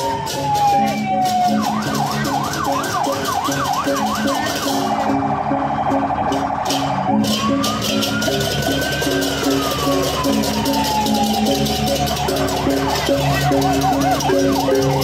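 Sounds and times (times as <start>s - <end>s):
electronic siren wailing and yelping: 0.0s - 15.0s
rhythmic music: 0.0s - 15.0s.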